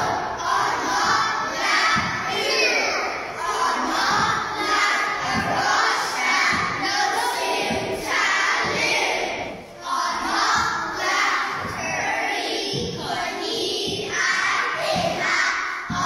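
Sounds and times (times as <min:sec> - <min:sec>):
children chanting a song: 0:00.0 - 0:16.0.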